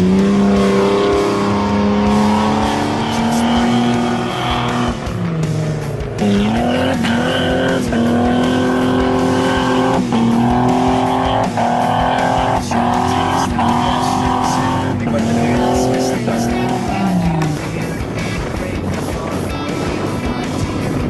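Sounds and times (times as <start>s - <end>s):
background music: 0.0s - 21.0s
vehicle engine running: 0.0s - 21.0s.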